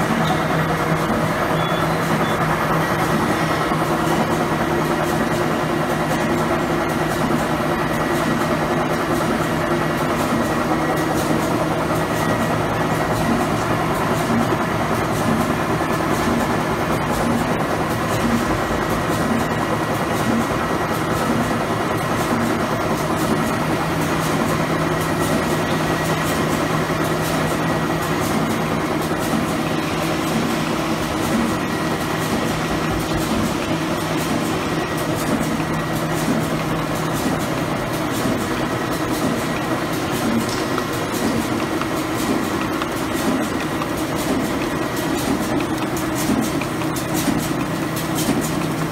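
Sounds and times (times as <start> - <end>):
constant machine hum: 0.0 - 48.9
production-line machinery running: 0.0 - 48.9.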